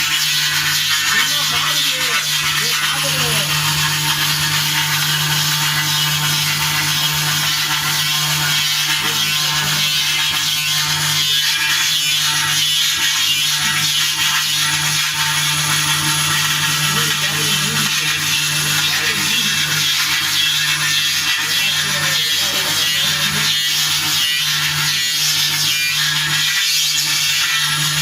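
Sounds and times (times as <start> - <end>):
engraving machine spindle running: 0.0 - 28.0.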